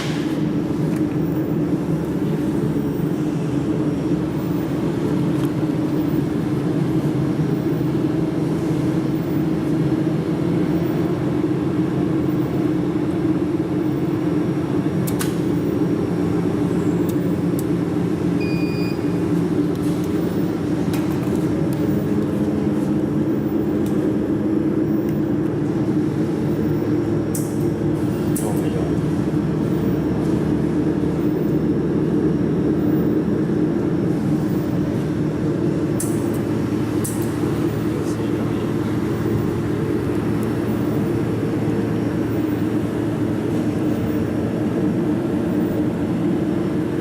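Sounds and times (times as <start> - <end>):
low machine hum: 0.0 - 47.0.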